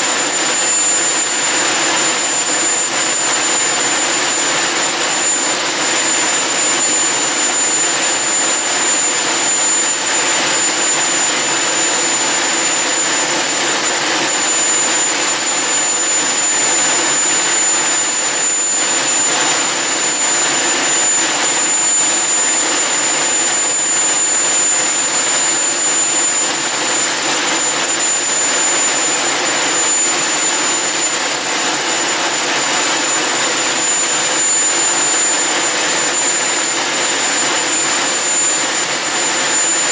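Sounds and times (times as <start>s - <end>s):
high-pitched jet whine: 0.0s - 39.9s
jet engine roar: 0.0s - 39.9s.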